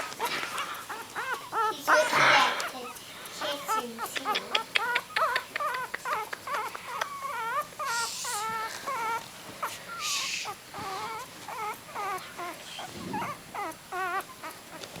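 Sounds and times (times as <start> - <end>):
puppies squealing and whimpering: 0.0 - 15.0.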